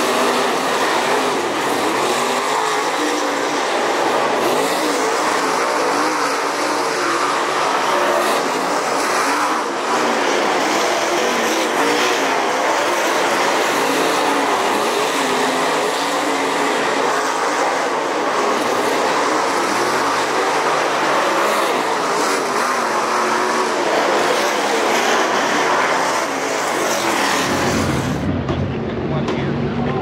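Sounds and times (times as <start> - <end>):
race car engines running hard: 0.0 - 30.0.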